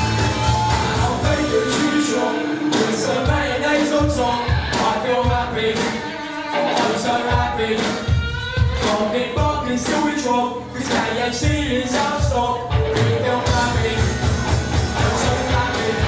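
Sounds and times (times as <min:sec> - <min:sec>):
drum kit: 0:00.0 - 0:16.0
electric guitars: 0:00.0 - 0:16.0
male voices singing: 0:00.0 - 0:16.0.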